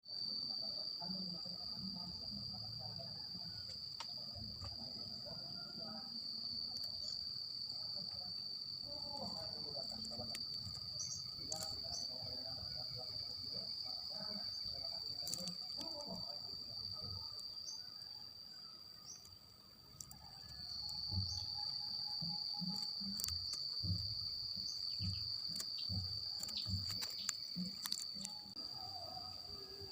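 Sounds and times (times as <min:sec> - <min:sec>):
cricket trilling: 0:00.0 - 0:29.9.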